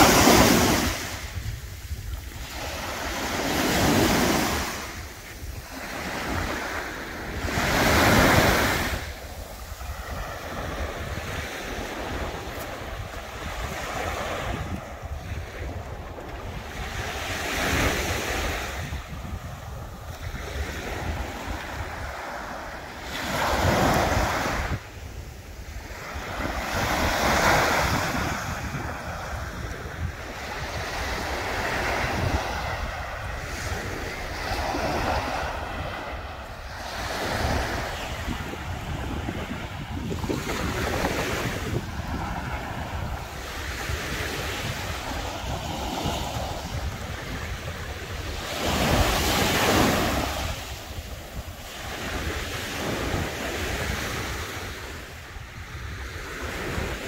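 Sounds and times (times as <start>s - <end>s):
waves washing onto beach: 0.0s - 57.0s
wind rumbling on microphone: 0.0s - 57.0s.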